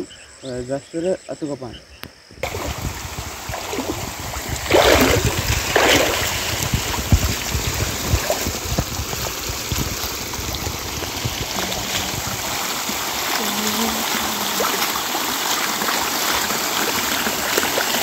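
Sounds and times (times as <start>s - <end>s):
water rushing down concrete channel: 2.4s - 18.0s.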